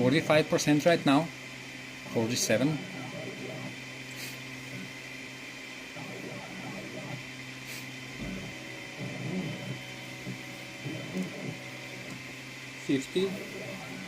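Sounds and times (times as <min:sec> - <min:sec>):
printer stepper motors humming: 0:00.0 - 0:14.0.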